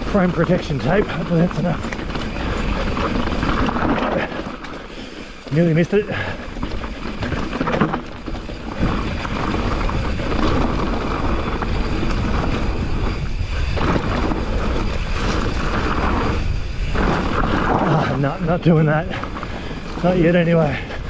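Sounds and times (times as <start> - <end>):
wind rushing over microphone: 0.0 - 5.4, 6.3 - 21.0
bike chatter: 0.0 - 21.0
tyres crunching on gravel: 0.0 - 21.0.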